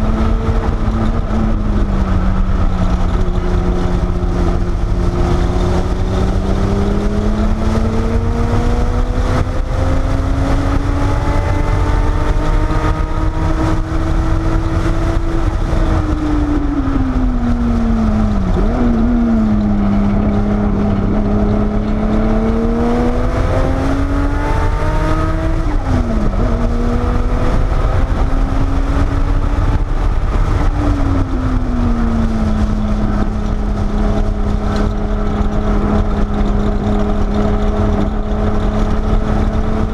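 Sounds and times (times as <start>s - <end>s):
car engine at speed from cabin: 0.0s - 39.9s.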